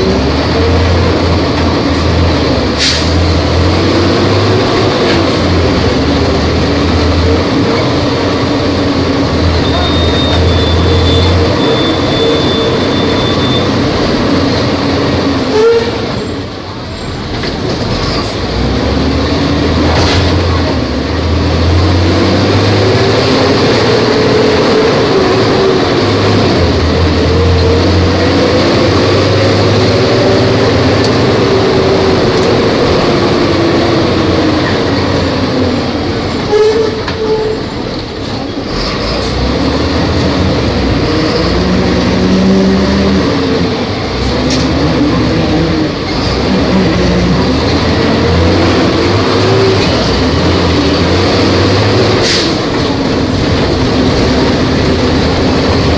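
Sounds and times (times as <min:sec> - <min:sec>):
bus diesel engine under load: 0:00.0 - 0:55.9.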